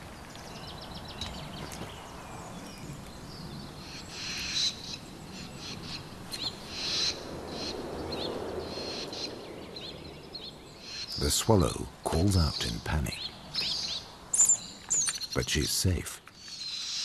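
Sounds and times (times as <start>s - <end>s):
low steady background noise: 0.0s - 17.0s
swallows alarm calls: 0.6s - 11.7s, 12.3s - 17.0s.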